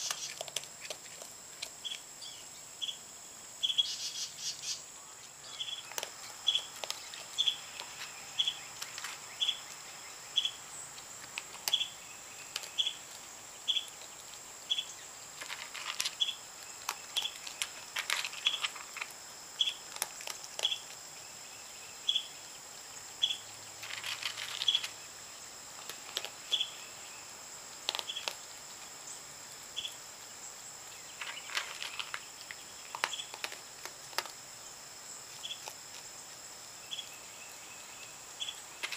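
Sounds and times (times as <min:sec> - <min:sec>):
raccoon crunching dry food: 0:00.0 - 0:02.3, 0:05.2 - 0:21.4, 0:23.1 - 0:26.8, 0:27.6 - 0:34.6, 0:35.2 - 0:37.1, 0:38.4 - 0:38.9
cricket chirping: 0:00.0 - 0:38.9
insect drone: 0:00.0 - 0:38.9.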